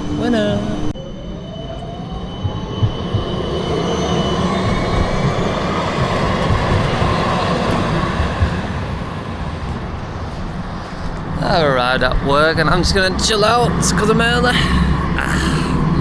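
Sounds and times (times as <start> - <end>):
tram wheels rumbling on rails: 1.6 - 16.0.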